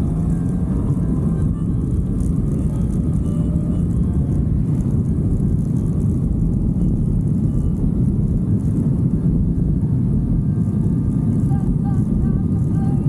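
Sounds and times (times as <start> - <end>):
motorcycle engine rumble: 0.0 - 13.0
road noise: 0.0 - 13.0
wind buffeting microphone: 0.0 - 13.0.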